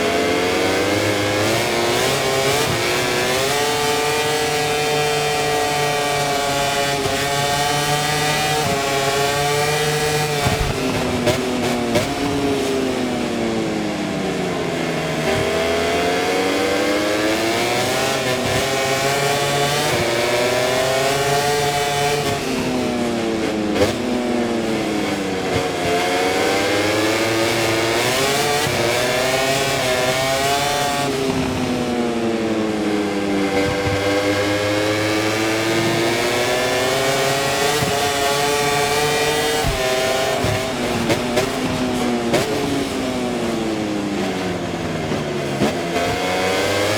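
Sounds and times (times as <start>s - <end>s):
racing motorcycle engine accelerating: 0.0s - 46.9s.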